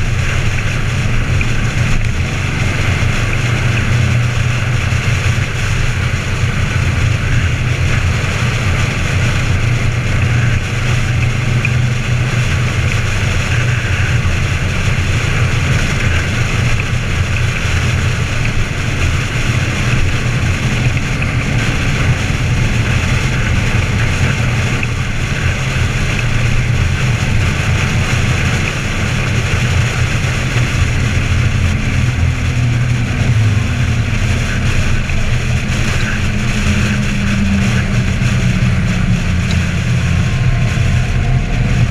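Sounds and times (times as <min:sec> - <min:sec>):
motorcycle engine cruising: 0:00.0 - 0:41.9
wind noise on microphone: 0:00.0 - 0:41.9.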